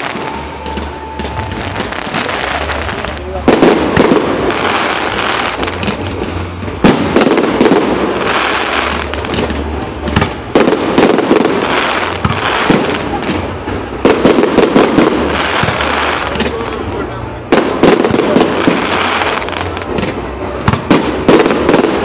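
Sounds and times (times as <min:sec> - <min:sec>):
firework crackling and popping: 0:00.0 - 0:22.0.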